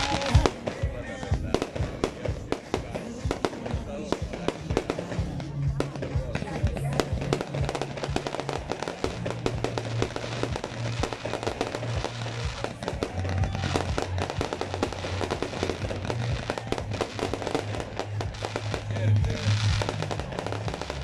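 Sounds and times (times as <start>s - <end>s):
fireworks bangs and crackles: 0.0s - 21.0s
music with bass line: 0.0s - 21.0s.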